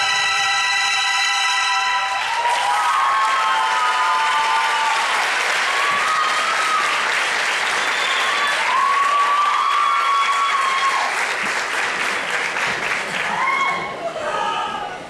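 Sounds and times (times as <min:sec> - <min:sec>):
audience applauding: 0:01.8 - 0:14.1.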